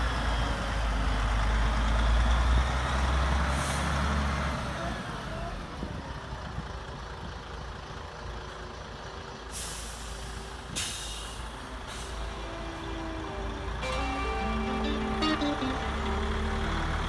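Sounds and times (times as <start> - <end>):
diesel engine low rumble: 0.0 - 17.0.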